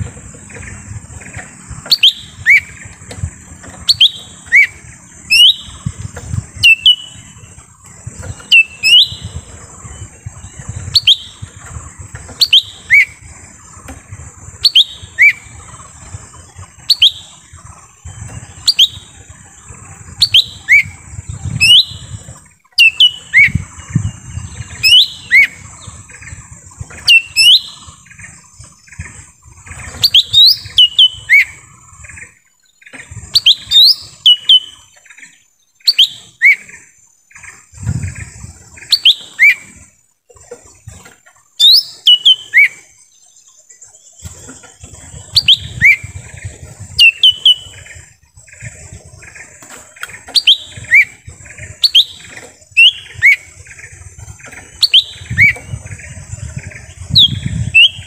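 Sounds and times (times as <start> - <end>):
bird whistled calls: 0.0 - 13.8, 14.5 - 39.9, 41.6 - 58.0.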